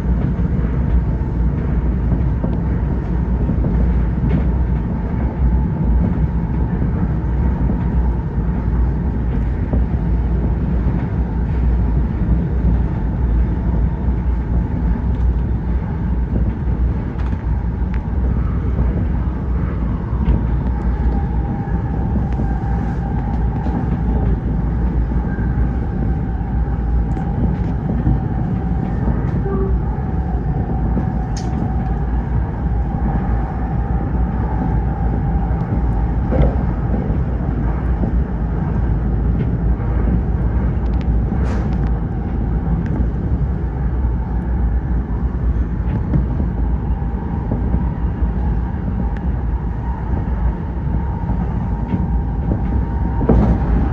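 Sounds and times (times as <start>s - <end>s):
electric train running: 0.0s - 53.9s.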